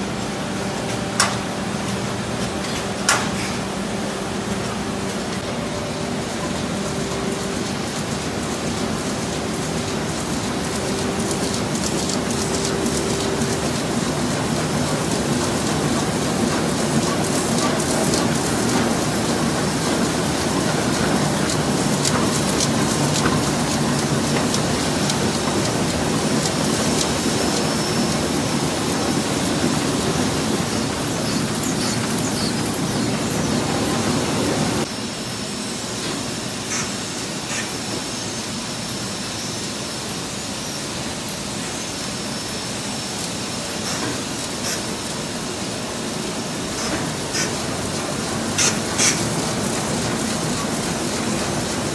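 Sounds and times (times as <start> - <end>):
printing press mechanical rattle: 0.8 - 34.9, 40.9 - 51.9.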